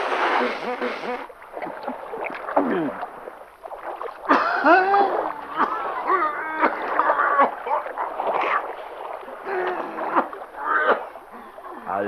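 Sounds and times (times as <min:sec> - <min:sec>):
cartoon water splashing: 0:00.0 - 0:03.1, 0:03.8 - 0:11.1.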